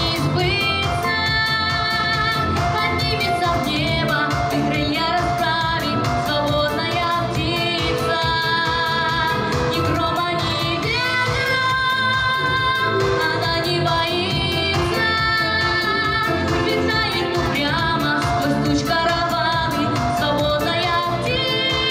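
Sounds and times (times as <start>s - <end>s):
backing music with steady beat: 0.0s - 21.9s
girl singing into microphone: 0.0s - 21.9s.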